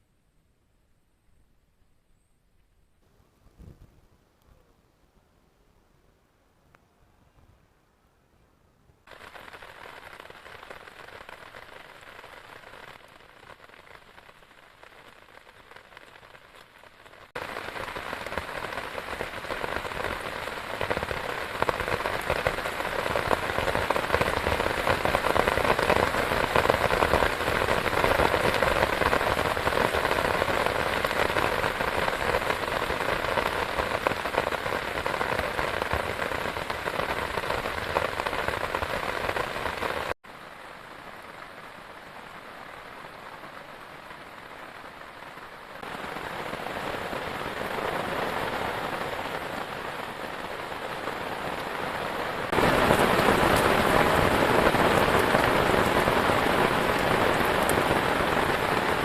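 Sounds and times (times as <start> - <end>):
heavy rain pattering: 9.0 - 59.0.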